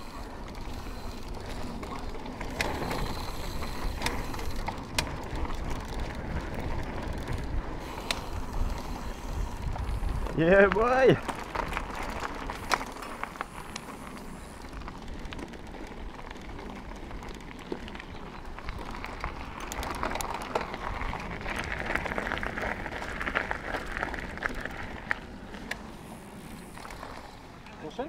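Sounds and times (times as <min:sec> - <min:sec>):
bike clicks and knocks: 0:00.0 - 0:28.0
bike tyres crunching on gravel: 0:00.0 - 0:28.0.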